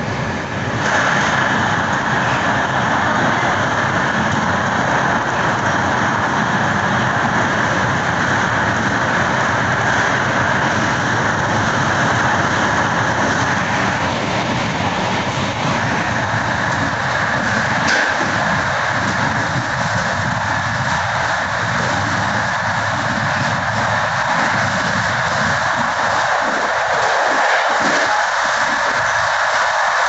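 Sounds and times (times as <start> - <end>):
train wheel and rail noise: 0.0 - 30.0.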